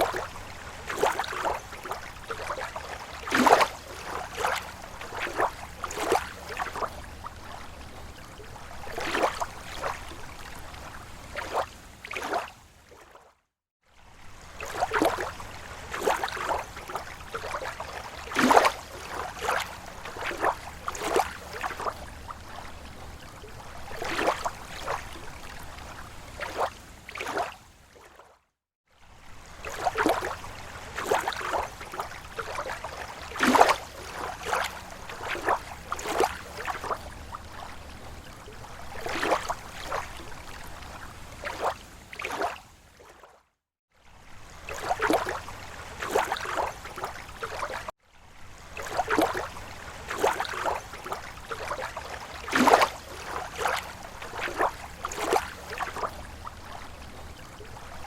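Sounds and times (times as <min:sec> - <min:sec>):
waves lapping on shore: 0:00.0 - 0:58.0.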